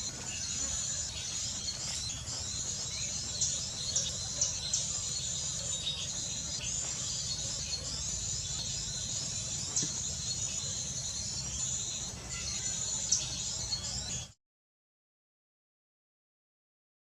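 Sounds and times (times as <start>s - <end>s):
high insect chorus: 0.0s - 14.2s.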